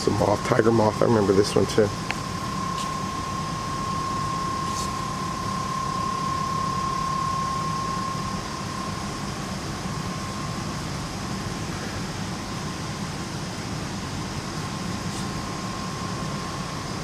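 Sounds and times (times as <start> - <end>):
thin steady whine: 0.0 - 17.0
ventilation fans rushing: 0.0 - 17.0.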